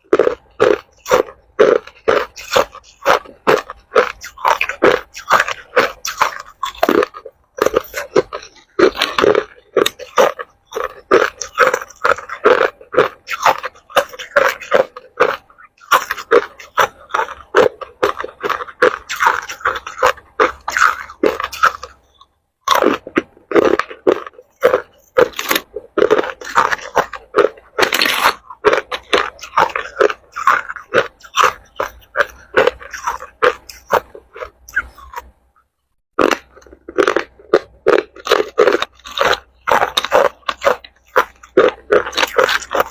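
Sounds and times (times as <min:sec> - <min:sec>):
ice being chewed: 0:00.0 - 0:35.4, 0:36.2 - 0:42.9.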